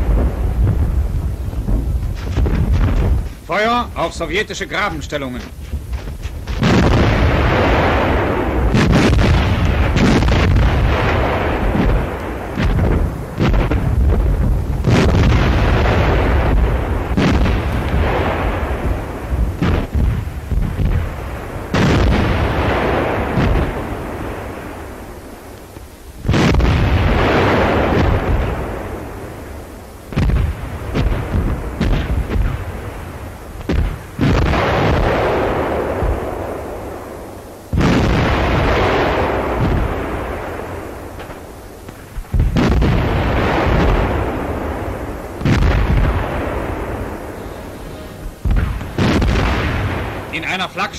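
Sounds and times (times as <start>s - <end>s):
cannon shots and shell bursts: 0.0s - 50.9s
old soundtrack hiss: 0.0s - 50.9s.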